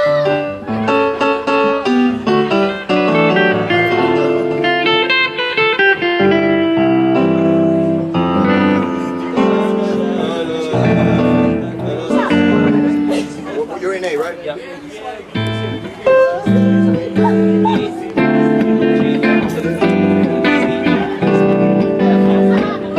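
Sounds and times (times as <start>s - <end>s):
electric guitar through amplifier: 0.0s - 13.8s, 14.4s - 22.9s
stage keyboard playing: 0.0s - 22.9s.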